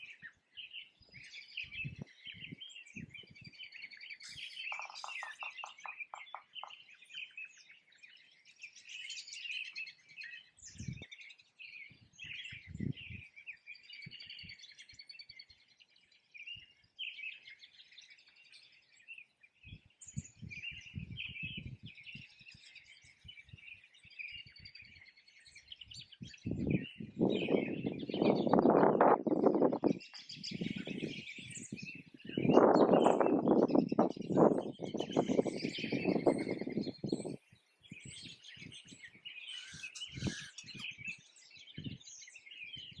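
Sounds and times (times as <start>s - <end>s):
evenly spaced lower bird notes: 0.0s - 13.1s, 20.4s - 43.0s
songbird chorus: 0.0s - 43.0s.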